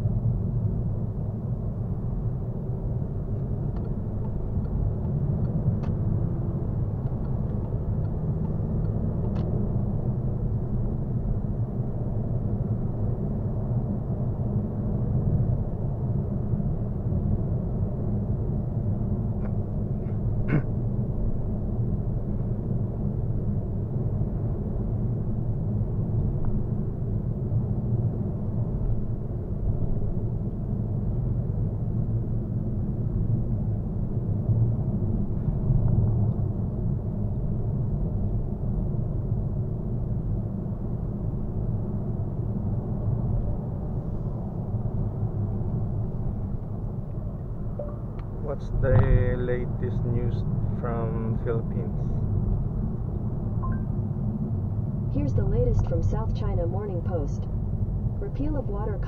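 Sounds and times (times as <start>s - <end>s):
van cabin road rumble: 0.0s - 59.0s.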